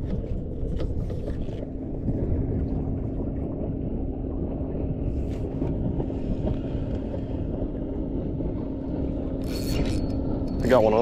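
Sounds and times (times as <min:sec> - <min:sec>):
boat motor humming: 0:00.0 - 0:11.0
wind buffeting microphone: 0:00.0 - 0:11.0.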